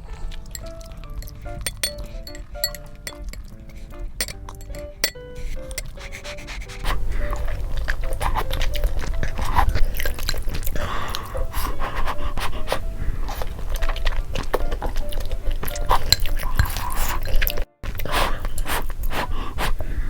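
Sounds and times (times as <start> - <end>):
light background music: 0.0 - 18.4
chewing and wet mouth noises: 0.0 - 19.9.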